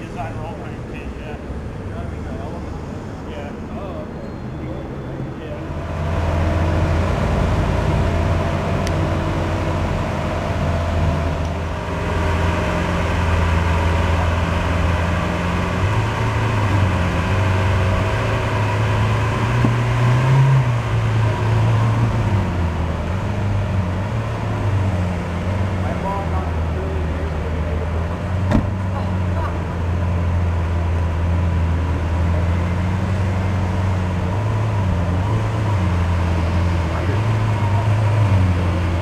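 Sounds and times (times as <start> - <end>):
car engine at low revs: 5.6 - 39.0.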